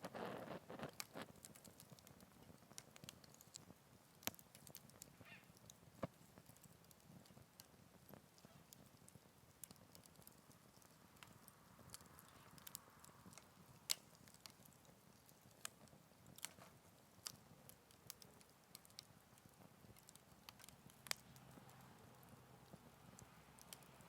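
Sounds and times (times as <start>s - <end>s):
faint hiss: 0.0s - 24.0s
wood fire crackling: 0.0s - 24.0s.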